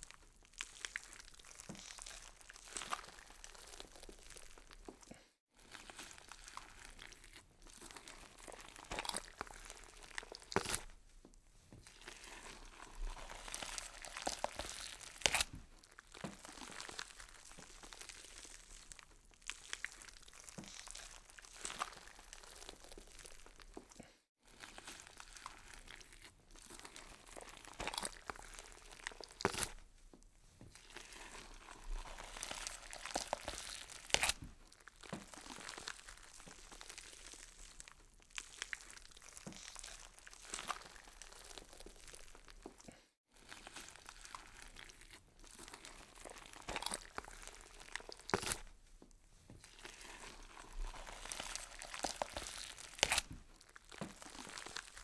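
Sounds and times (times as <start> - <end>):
wet crunching and tearing: 0.0 - 55.0.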